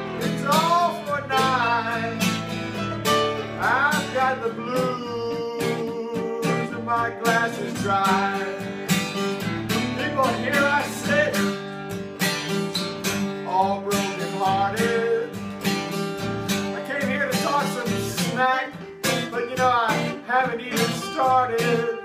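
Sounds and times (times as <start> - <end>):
acoustic guitars strumming: 0.0 - 22.0.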